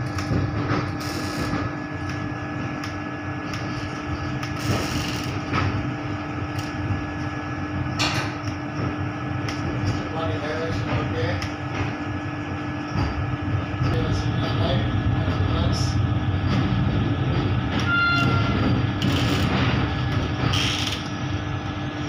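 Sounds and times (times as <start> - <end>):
train cab hum: 0.0 - 22.0.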